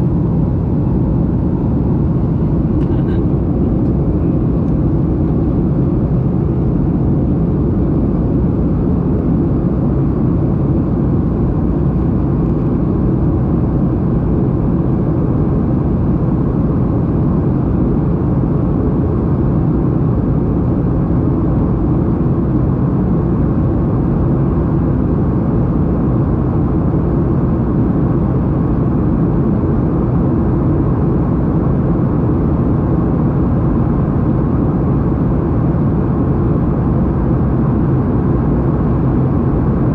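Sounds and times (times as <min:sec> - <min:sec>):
airliner engines roaring in cabin: 0:00.0 - 0:39.9.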